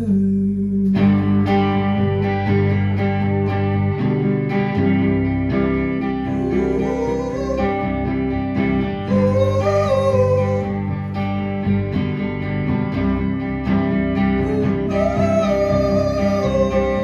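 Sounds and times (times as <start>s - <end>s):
strummed guitar chords: 0.8s - 17.0s
lead guitar melody sliding: 1.0s - 17.0s.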